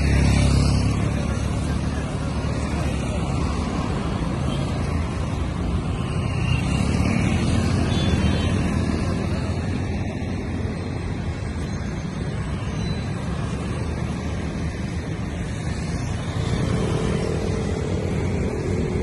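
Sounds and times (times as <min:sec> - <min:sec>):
low traffic rumble: 0:00.0 - 0:19.0
motorcycles passing: 0:00.0 - 0:19.0.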